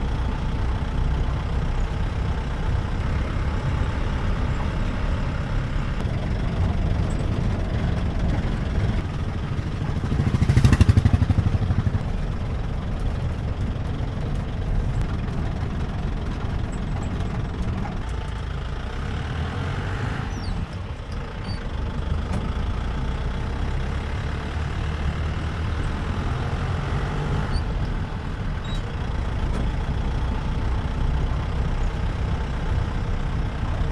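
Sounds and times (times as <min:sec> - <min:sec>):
vehicle engine driving: 0:00.0 - 0:33.9.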